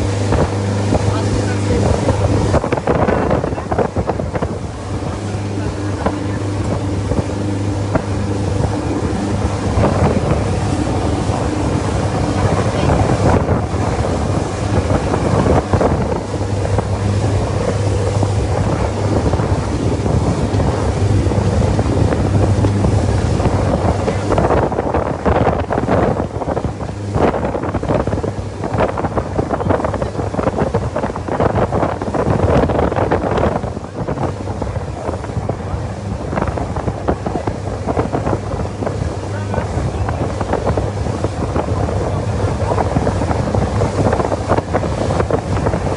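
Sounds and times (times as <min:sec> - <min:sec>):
boat engine humming: 0:00.0 - 0:45.9
water rushing past: 0:00.0 - 0:45.9
wind buffeting microphone: 0:00.0 - 0:45.9.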